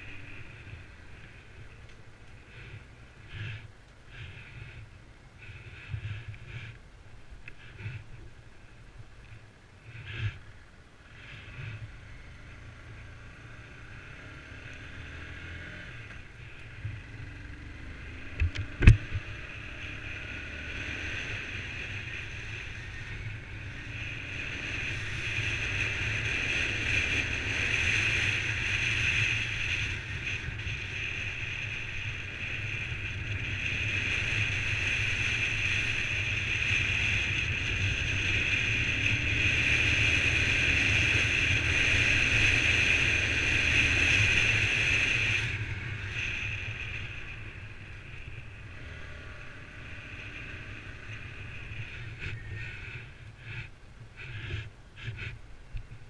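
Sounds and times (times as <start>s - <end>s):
motorcycle engine running: 9.4s - 56.0s.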